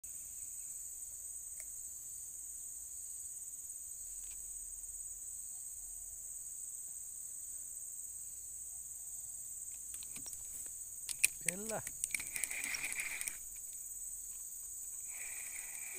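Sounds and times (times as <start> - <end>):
insect chorus trilling: 0.0 - 15.9.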